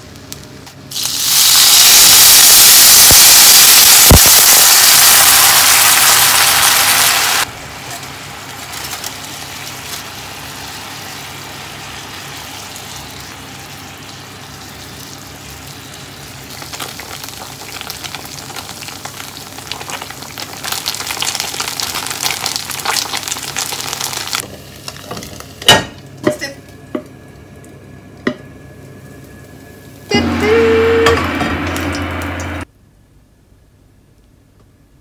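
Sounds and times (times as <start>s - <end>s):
dumplings sizzling in a pan: 0.8s - 31.0s.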